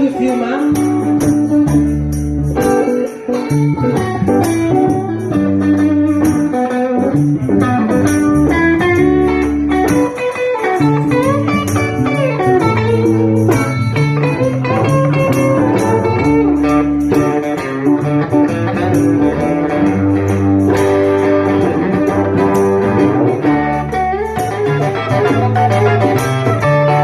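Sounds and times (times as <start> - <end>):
bass guitar: 0.0 - 27.0
electric guitar lead: 0.0 - 27.0
rhythm guitar: 0.0 - 27.0.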